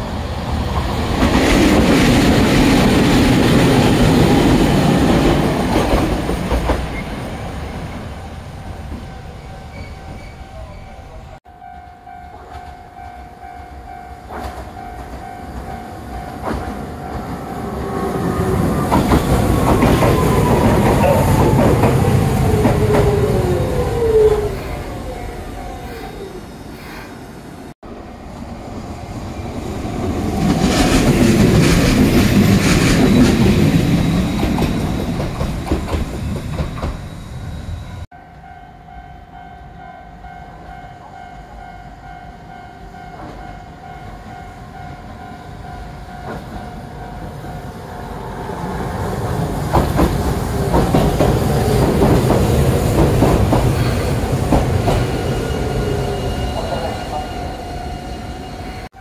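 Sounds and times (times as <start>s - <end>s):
train wheels rumbling and clacking: 0.0s - 11.2s, 11.8s - 26.0s, 28.4s - 38.1s, 43.0s - 58.9s.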